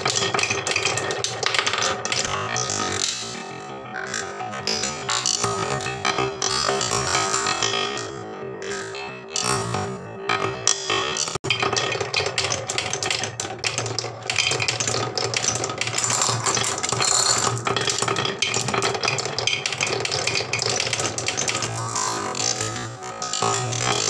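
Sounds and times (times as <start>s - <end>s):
marbles rattling on wooden rails: 0.0s - 3.4s, 4.1s - 24.0s.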